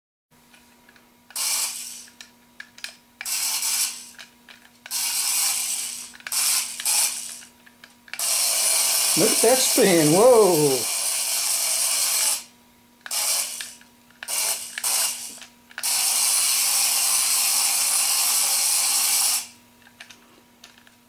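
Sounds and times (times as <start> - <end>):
toy car electric motor whirring: 1.3 - 20.9.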